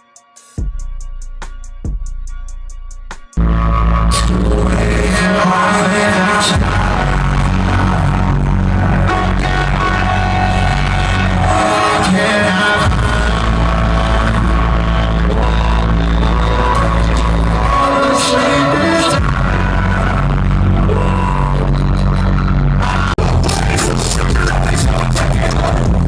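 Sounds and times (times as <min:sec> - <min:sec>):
live concert music with heavy bass: 0:00.0 - 0:26.0
person singing: 0:03.6 - 0:26.0.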